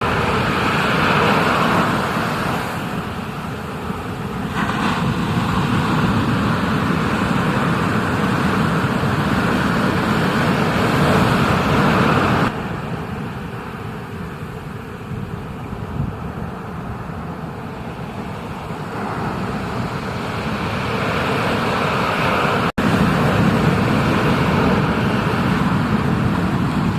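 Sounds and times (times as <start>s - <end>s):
ocean water rushing: 0.0s - 26.9s
wind: 0.0s - 26.9s.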